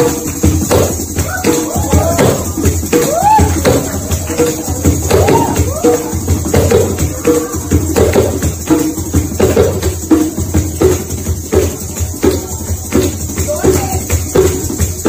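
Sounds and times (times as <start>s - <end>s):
djembe played by hand: 0.0s - 15.0s.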